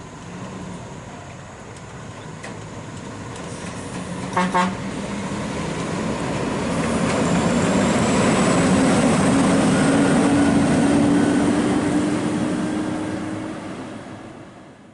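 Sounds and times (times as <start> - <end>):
truck driving past: 0.0 - 14.8.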